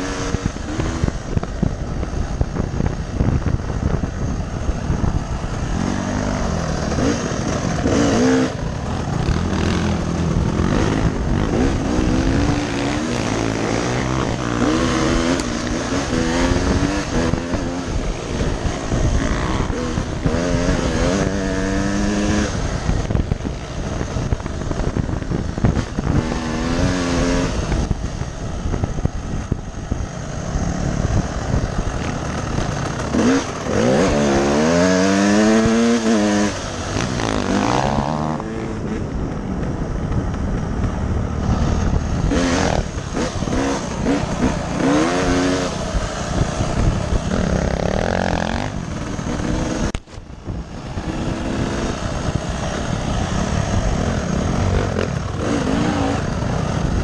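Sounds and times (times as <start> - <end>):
dirt bike engine revving: 0.0 - 28.2, 30.2 - 39.4, 40.5 - 50.1, 50.7 - 57.0
wind noise on microphone: 0.0 - 57.0.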